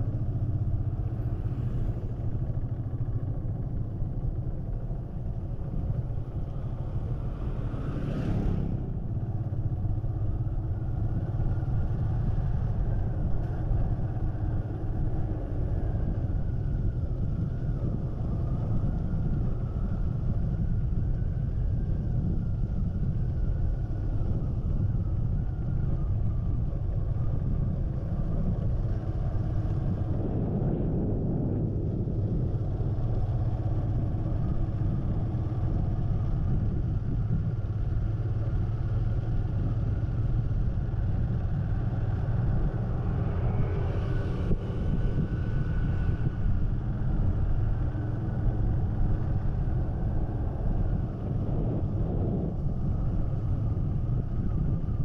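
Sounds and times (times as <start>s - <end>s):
vehicle rumble on paved road: 0.0s - 55.0s.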